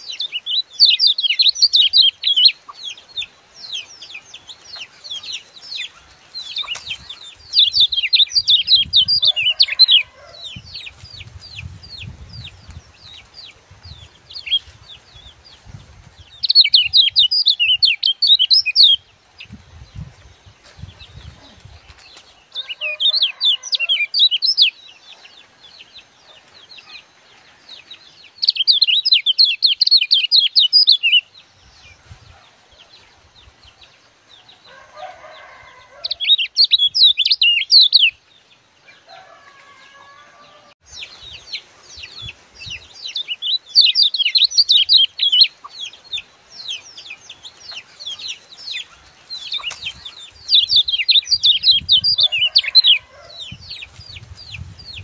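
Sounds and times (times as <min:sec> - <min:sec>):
bird chattering song: 0:00.0 - 0:15.4, 0:16.2 - 0:20.1, 0:21.0 - 0:27.1, 0:27.9 - 0:33.0, 0:36.1 - 0:38.2, 0:41.0 - 0:55.0.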